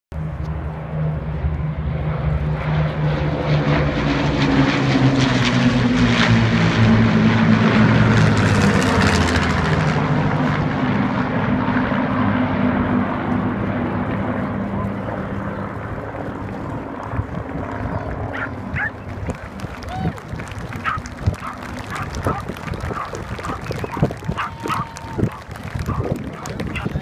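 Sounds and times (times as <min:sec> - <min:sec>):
propeller plane engines droning: 0:00.1 - 0:27.0.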